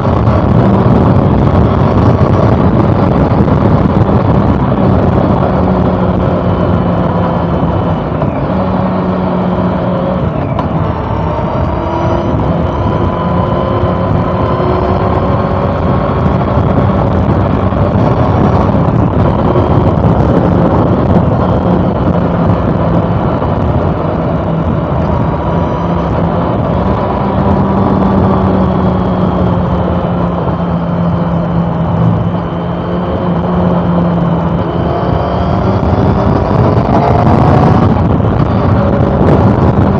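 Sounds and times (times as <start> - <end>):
motorcycle engine cruising: 0.0 - 39.9
steady rush of noise: 0.0 - 39.9.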